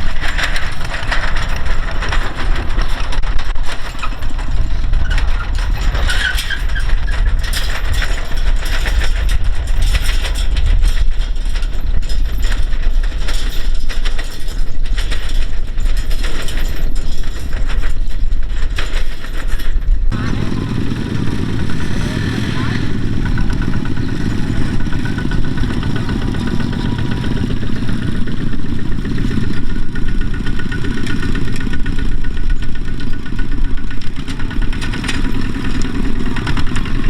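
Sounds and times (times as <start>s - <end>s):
farm machine engine rumbling: 0.0s - 37.0s
mechanical clatter: 0.0s - 37.0s.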